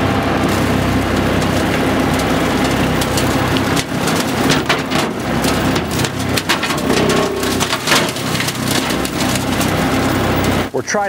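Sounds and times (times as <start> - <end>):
tractor diesel engine hum: 0.0 - 11.0
debris crackling and snapping: 0.4 - 10.8.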